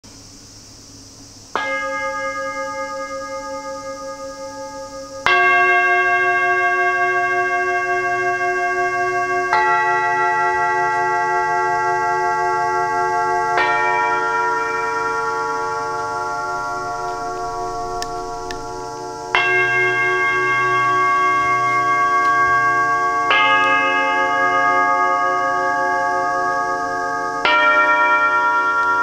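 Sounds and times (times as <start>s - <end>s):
low bowl tone ringing: 1.6s - 29.0s
singing bowls struck and ringing: 1.6s - 29.0s.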